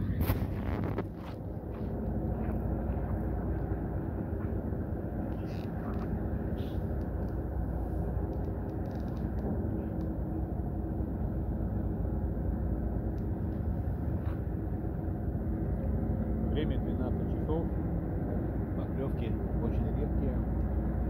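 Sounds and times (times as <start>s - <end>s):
ship engine droning: 0.0s - 21.0s.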